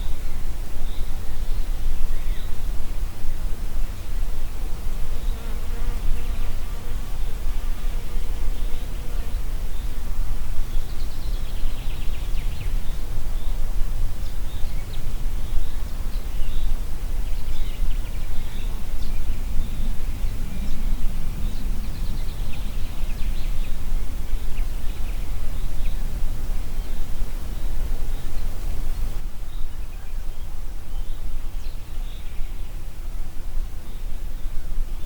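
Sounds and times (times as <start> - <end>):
wind blowing through trees: 0.0 - 35.0.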